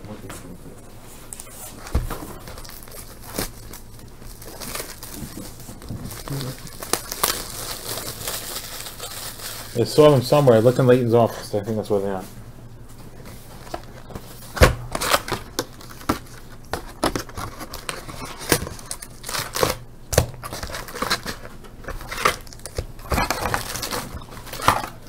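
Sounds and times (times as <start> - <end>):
foil wrappers crinkling and snapping: 1.3 - 12.2, 13.0 - 25.0.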